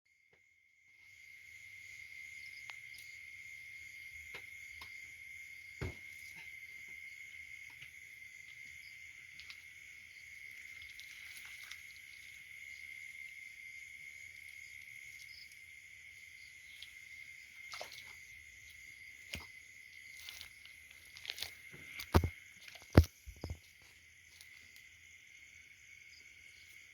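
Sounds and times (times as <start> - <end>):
crickets trilling: 0.8 - 26.9.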